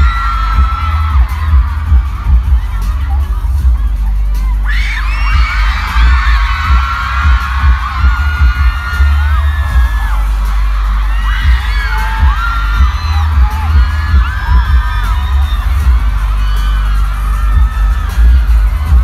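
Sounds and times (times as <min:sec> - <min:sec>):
crowd screaming: 0:00.0 - 0:19.0
loud music with thumping bass: 0:00.0 - 0:19.0.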